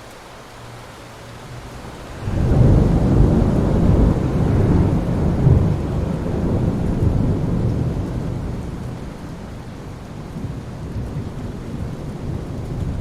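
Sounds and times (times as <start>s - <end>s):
steady rain: 0.0s - 13.0s
thunder rumbling: 1.8s - 13.0s.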